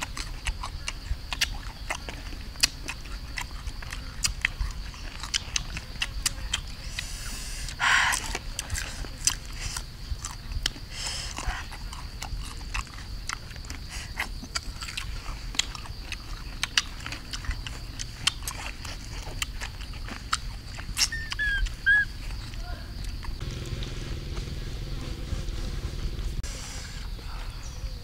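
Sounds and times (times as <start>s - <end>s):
mouth clicks: 0.0s - 23.4s
person chewing crunchy fruit: 0.0s - 26.1s.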